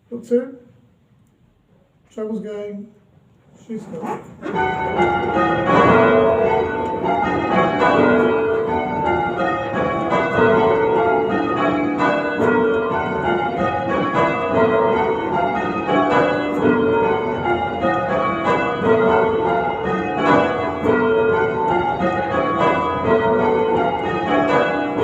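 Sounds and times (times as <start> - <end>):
church bells ringing: 4.4 - 25.0.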